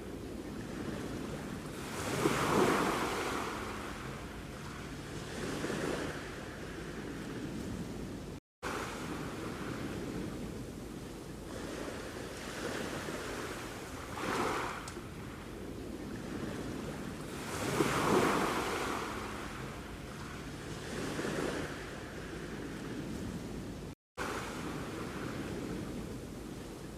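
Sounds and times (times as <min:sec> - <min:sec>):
sea waves on shore: 0:00.0 - 0:26.9.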